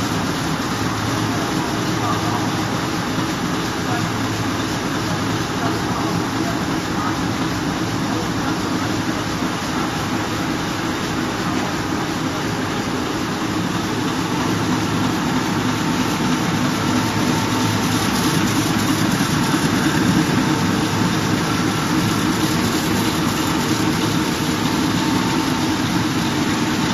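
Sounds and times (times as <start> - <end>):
faint steady whines: 0.0 - 26.9
printing press mechanical din: 0.0 - 26.9.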